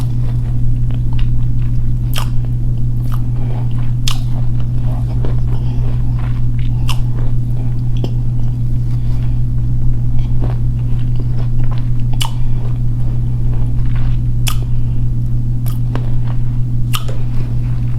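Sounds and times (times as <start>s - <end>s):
clay being bitten and chewed: 0.0s - 14.9s, 15.6s - 17.9s
sharp crunches: 0.0s - 15.0s, 15.6s - 17.9s
steady low hum: 0.0s - 17.9s.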